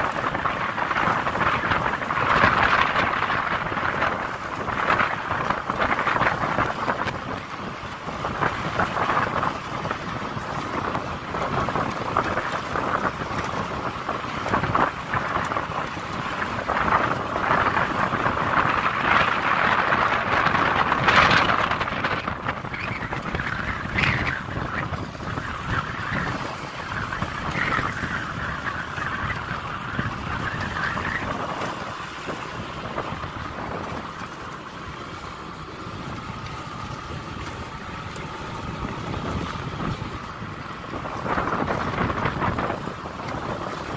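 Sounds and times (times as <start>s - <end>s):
tyre and road noise: 0.0s - 43.9s
wind buffeting microphone: 0.0s - 43.9s.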